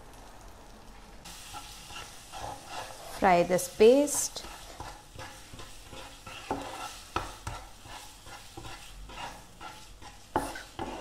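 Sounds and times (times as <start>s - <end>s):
paste sizzling in oil: 1.2s - 11.0s
wooden spatula scraping pan: 1.3s - 11.0s.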